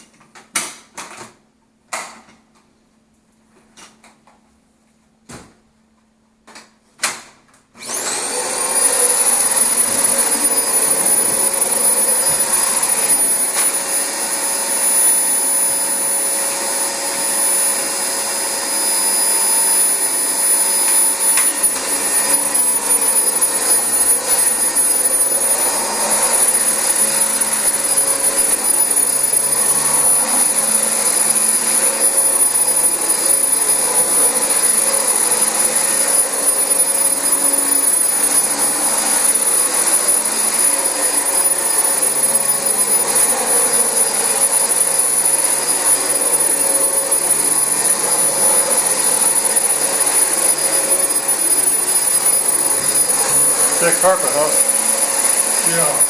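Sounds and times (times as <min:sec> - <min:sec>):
vacuum cleaner whining: 0:07.8 - 0:56.0.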